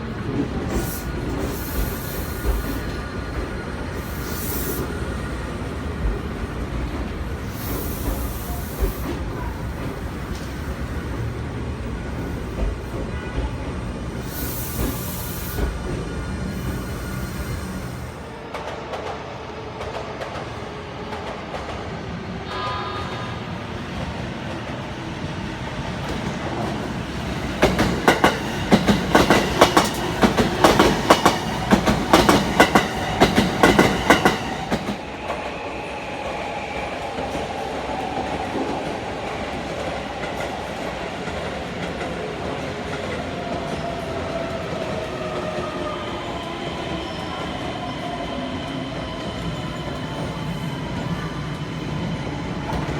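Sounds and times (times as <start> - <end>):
faint train whine: 0.0 - 52.9
train rumbling on rails: 0.0 - 52.9.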